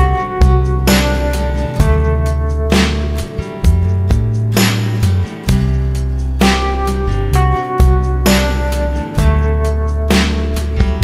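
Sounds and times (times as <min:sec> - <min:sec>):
drum hits: 0:00.0 - 0:09.4
strong bass line: 0:00.0 - 0:11.0.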